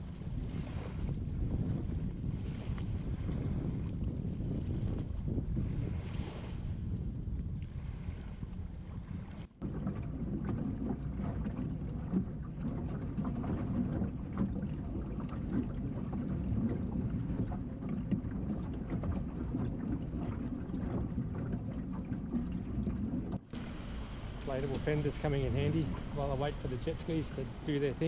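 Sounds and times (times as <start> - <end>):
water slapping against boat hull: 0.0 - 28.0.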